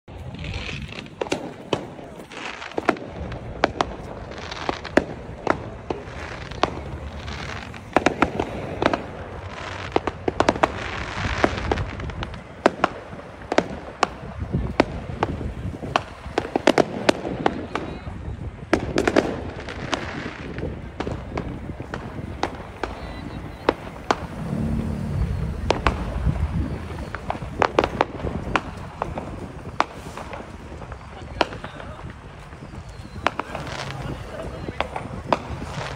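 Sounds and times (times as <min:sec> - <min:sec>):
fireworks bangs and crackles: 0:00.1 - 0:35.9.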